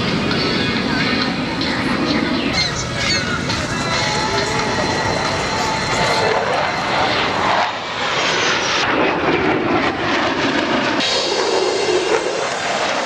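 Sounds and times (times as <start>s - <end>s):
airplane engine roaring past: 0.0s - 13.0s.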